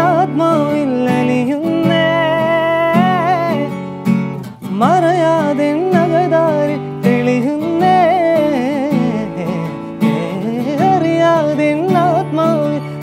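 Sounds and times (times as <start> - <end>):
acoustic guitar: 0.0 - 13.0
man singing: 0.0 - 13.0.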